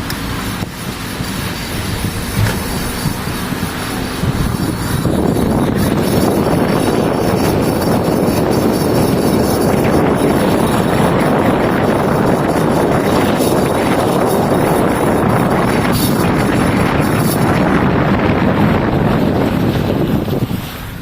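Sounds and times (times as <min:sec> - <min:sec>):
car road and wind noise: 0:00.0 - 0:21.0.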